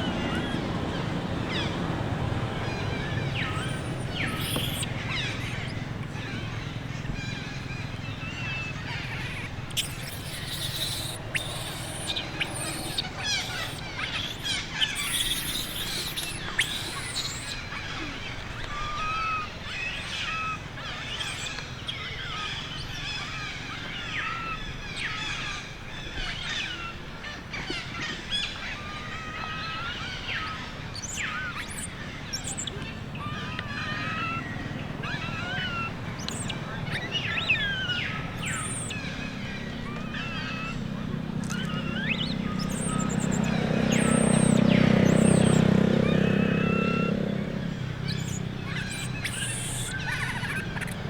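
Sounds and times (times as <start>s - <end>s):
high-pitched chirping calls: 2.8s - 23.2s, 29.5s - 47.3s, 48.0s - 51.0s.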